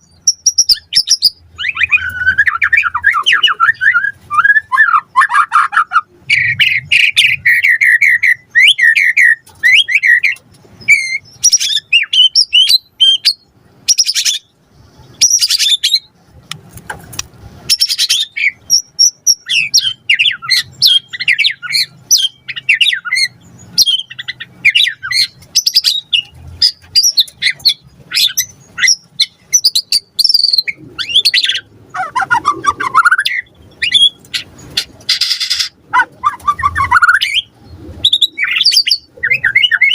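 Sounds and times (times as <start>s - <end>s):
songbird singing whistles and trills: 0.0s - 16.2s, 17.7s - 39.9s.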